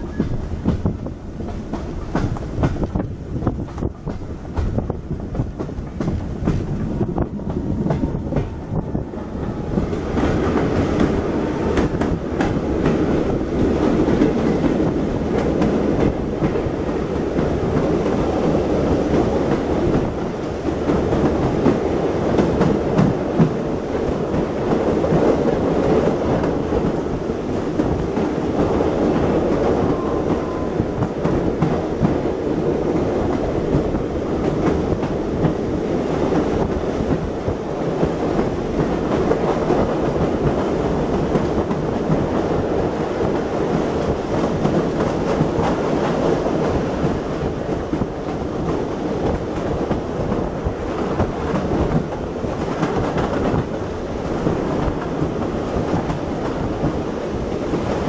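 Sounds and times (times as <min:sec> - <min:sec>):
clickety-clack of rail joints: 0:00.0 - 0:58.0
rumble of wheels on track: 0:00.0 - 0:58.0.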